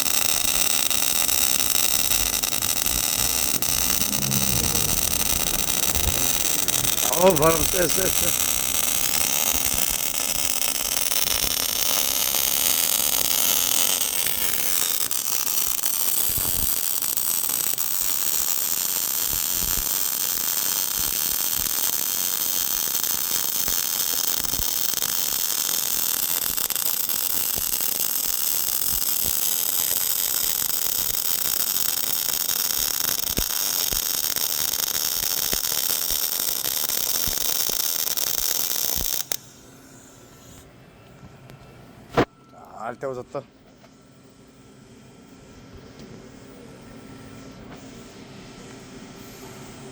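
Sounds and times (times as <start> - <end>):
welding arc hiss and crackle: 0.0 - 40.7.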